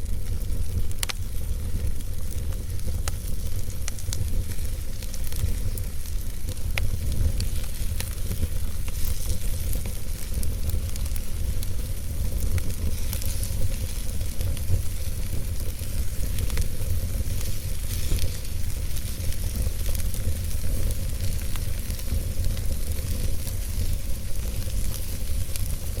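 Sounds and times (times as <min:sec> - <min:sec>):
fire crackling: 0:00.0 - 0:26.0.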